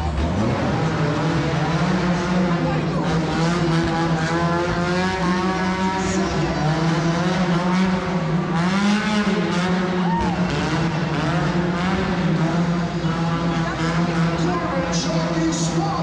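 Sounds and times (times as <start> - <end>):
monster truck engine running: 0.0 - 16.0.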